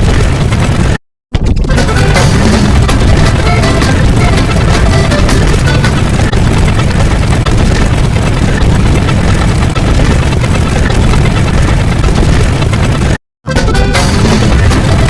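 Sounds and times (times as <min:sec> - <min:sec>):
loud steady rumbling: 0:00.0 - 0:15.0.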